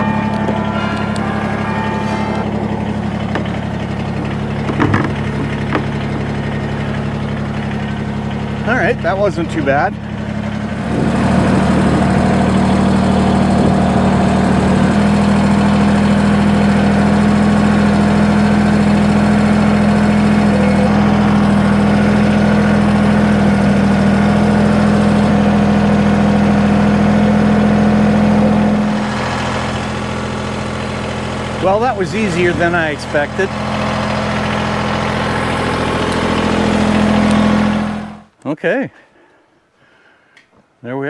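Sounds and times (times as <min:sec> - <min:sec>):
tractor diesel engine revving: 0:00.0 - 0:38.4.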